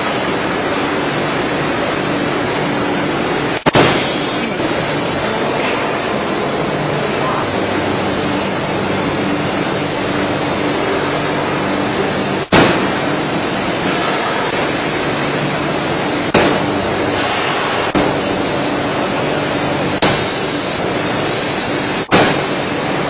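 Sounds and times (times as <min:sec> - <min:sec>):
veneer splicer machine running: 0:00.0 - 0:23.0.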